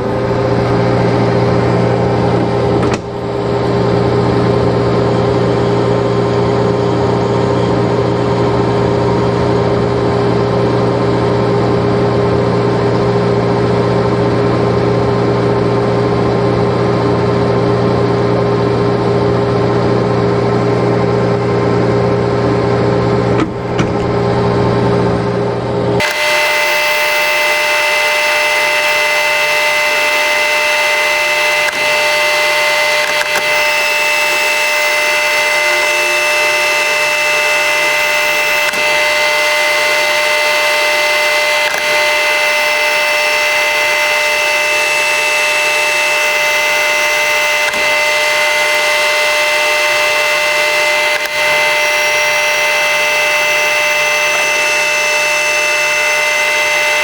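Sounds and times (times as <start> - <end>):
metal lathe whining: 0.0 - 12.3, 20.3 - 57.0.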